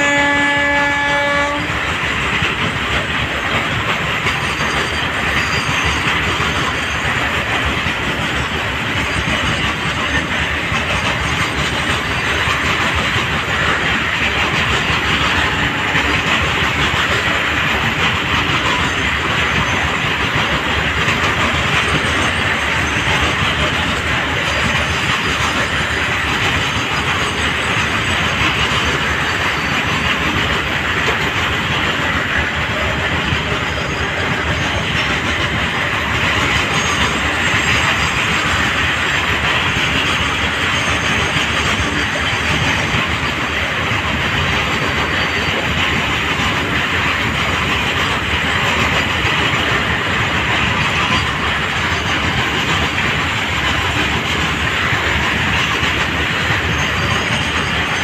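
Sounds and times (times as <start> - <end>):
freight wagon wheels rumbling on rails: 0.0 - 58.0.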